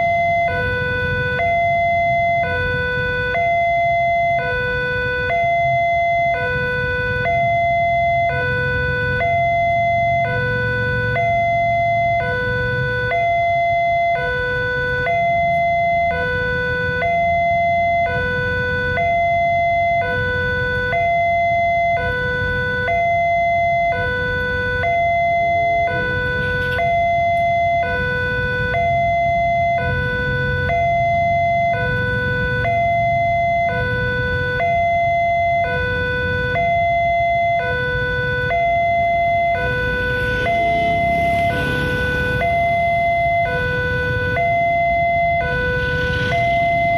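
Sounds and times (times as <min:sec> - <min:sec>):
two-tone crossing alarm: 0:00.0 - 0:46.9.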